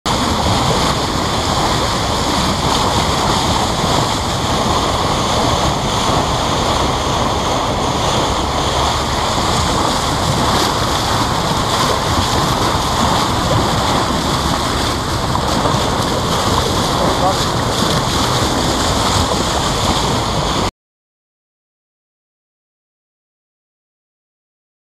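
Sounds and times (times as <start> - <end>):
water rushing along boat hull: 0.0 - 20.7
wind buffeting microphone: 0.1 - 20.7.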